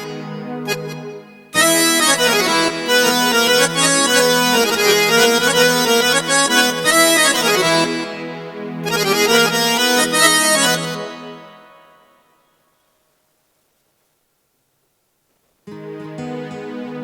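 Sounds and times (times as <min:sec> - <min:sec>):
keyboard reedy melody with chords: 0:00.0 - 0:12.8, 0:15.7 - 0:17.0.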